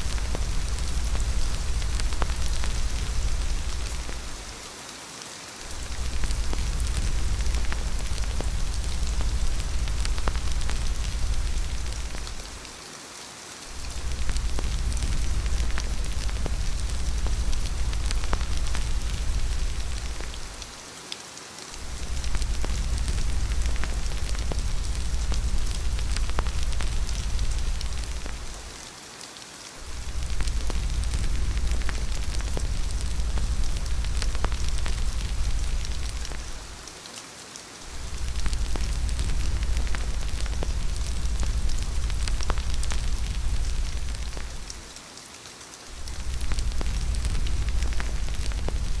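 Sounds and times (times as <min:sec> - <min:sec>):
deep low rumble: 0:00.0 - 0:04.6, 0:05.7 - 0:12.7, 0:13.7 - 0:20.7, 0:21.8 - 0:28.8, 0:29.8 - 0:36.8, 0:37.9 - 0:44.9, 0:46.0 - 0:49.0
steady rain: 0:00.0 - 0:49.0.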